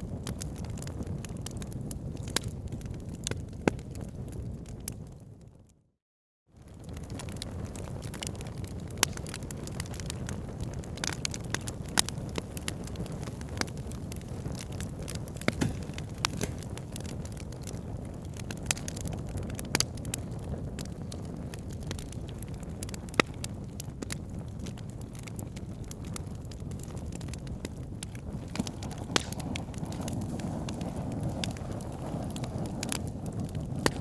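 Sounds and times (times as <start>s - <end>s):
wood fire crackling and popping: 0.0s - 5.3s, 6.6s - 34.0s.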